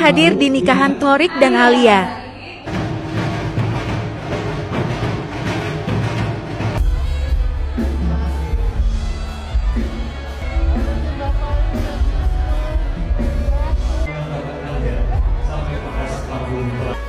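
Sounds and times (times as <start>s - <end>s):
music with heavy pulsing bass: 2.7s - 17.0s.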